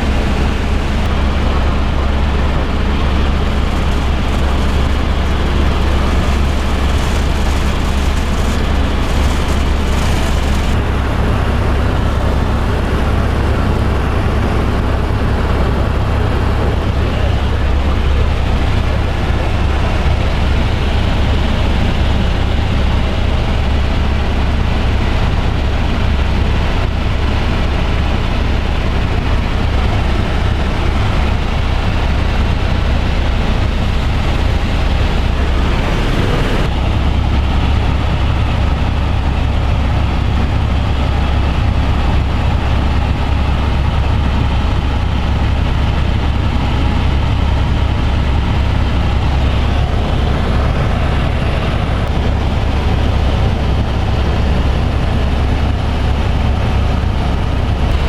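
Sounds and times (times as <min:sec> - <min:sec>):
helicopter rotor drone: 0:00.0 - 0:58.0.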